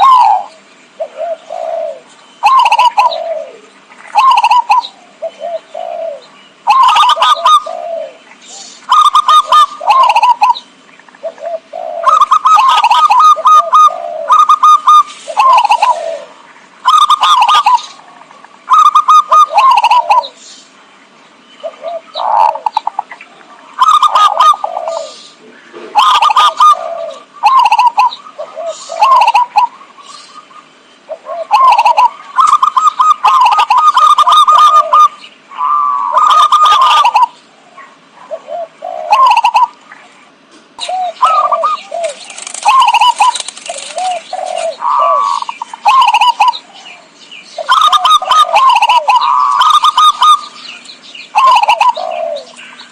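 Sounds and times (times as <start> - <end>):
dove cooing: 0.0 - 20.4, 21.6 - 52.9.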